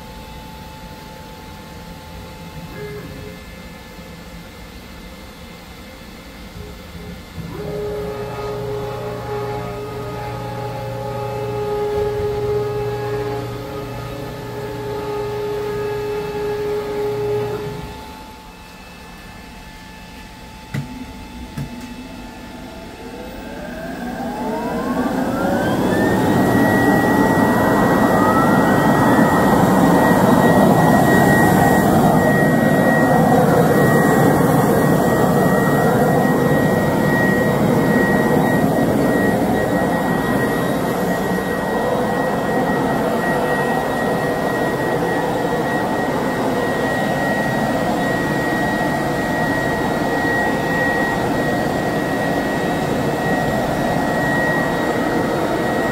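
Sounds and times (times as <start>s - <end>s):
vacuum blower whine: 0.0s - 55.9s.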